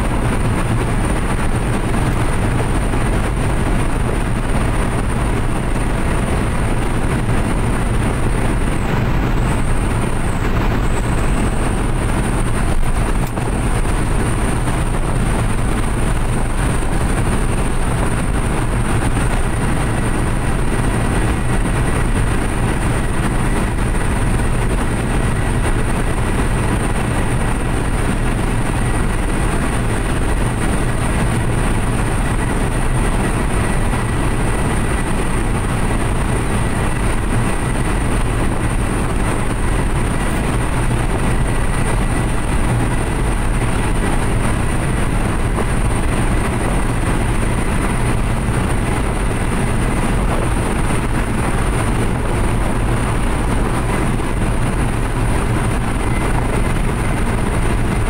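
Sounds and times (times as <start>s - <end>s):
engine drone: 0.0s - 58.0s
tyre road noise: 0.0s - 58.0s.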